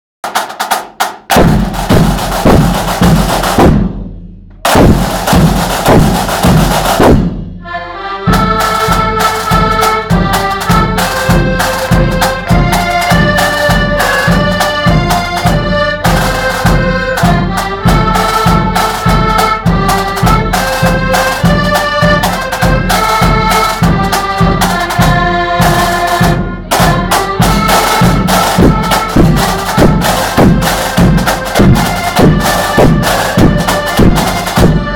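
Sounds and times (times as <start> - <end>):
accordions playing marching tune: 0.2 - 3.9, 4.6 - 34.9
snare and bass drums: 0.2 - 7.6, 8.3 - 34.9.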